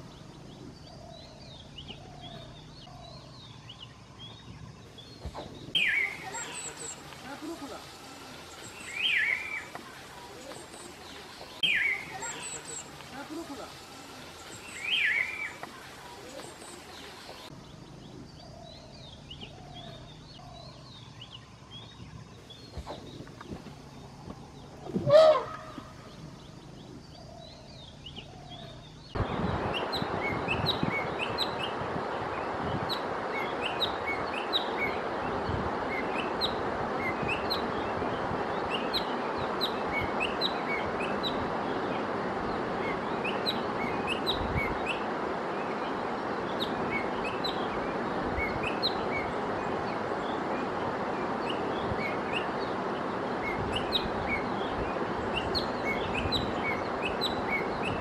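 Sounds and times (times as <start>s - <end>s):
small birds chirping: 0.0s - 58.0s
steady hiss: 0.0s - 58.0s.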